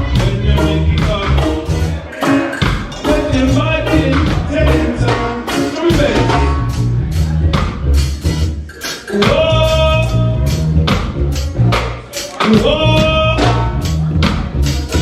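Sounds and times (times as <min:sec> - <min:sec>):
person singing: 0:00.0 - 0:07.5, 0:08.8 - 0:15.0
reggae band playing: 0:00.0 - 0:15.0.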